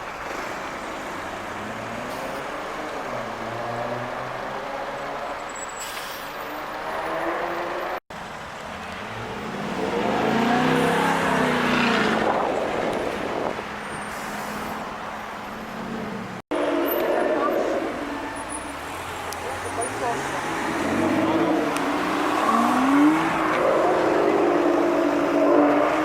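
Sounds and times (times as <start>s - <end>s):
supercar engines driving by: 0.0s - 26.0s.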